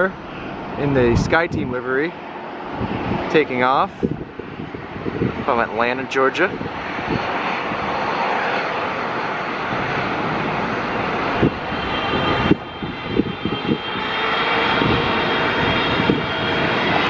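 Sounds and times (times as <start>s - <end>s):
high fan whine: 0.0s - 17.0s
jet engine roar: 0.0s - 17.0s
wind buffeting microphone: 0.0s - 17.0s.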